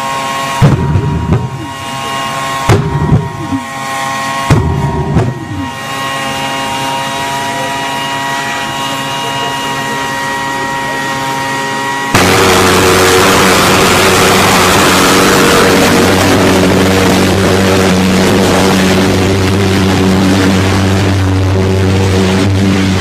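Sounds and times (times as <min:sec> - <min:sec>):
loud whooshing exhaust bursts: 0:00.0 - 0:09.3, 0:11.4 - 0:23.0
jet engine high whine: 0:00.0 - 0:23.0.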